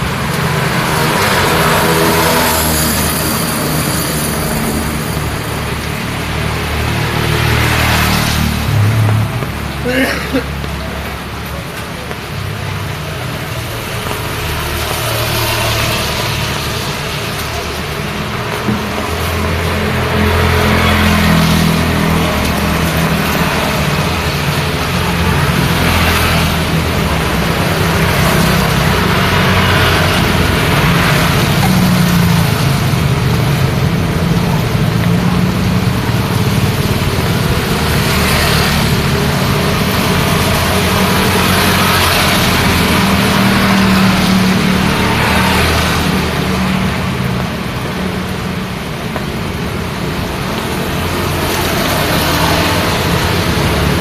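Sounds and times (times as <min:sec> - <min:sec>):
cars and motorbikes passing: 0:00.0 - 0:54.0
rain and wet tyres hissing: 0:00.0 - 0:54.0.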